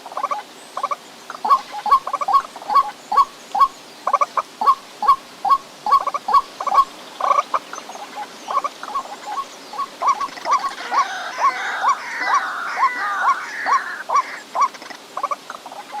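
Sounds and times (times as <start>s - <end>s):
waterhen croaking calls: 0.0s - 16.0s.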